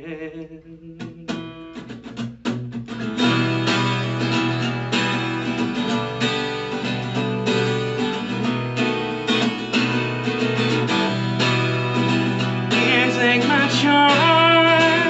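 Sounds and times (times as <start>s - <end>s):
acoustic guitar strumming chords: 0.9s - 15.0s.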